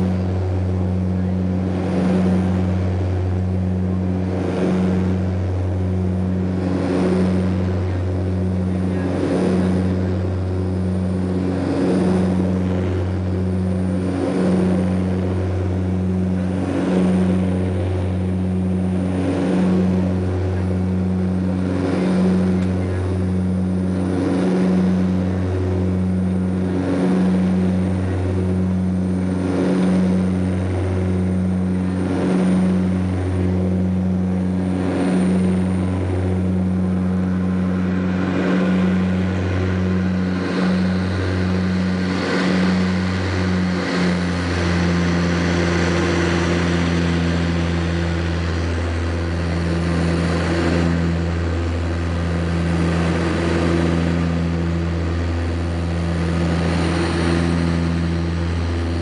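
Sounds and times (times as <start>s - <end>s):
propeller drone in aircraft cabin: 0.0s - 59.0s.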